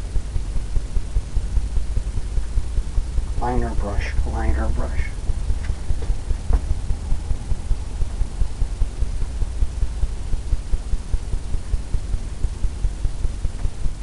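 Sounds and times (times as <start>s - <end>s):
low rumble: 0.0s - 14.0s
rapid soft thumps: 0.0s - 14.0s.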